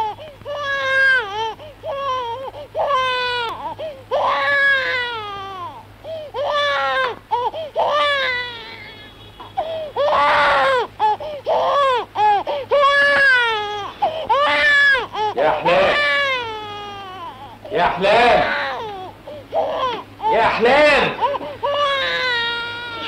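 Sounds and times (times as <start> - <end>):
baby crying: 0.0 - 23.0.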